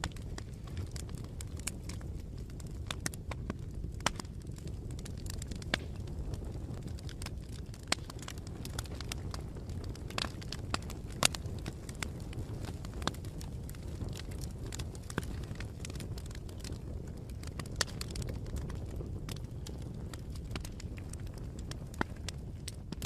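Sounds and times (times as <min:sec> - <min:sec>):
bonfire crackling and popping: 0:00.0 - 0:23.0.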